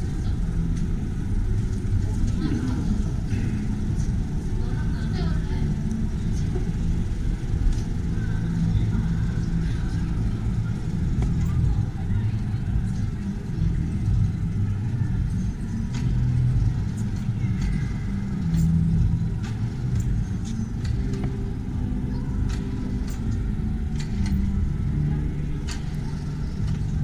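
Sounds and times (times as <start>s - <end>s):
faint indistinct voices: 0.0s - 27.0s
steady low rumble: 0.0s - 27.0s.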